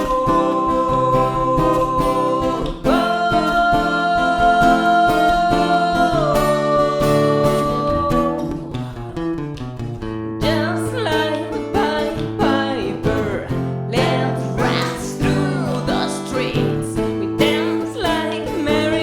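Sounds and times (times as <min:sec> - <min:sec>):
lead guitar bending notes: 0:00.0 - 0:19.0
sustained guitar chords: 0:00.0 - 0:19.0.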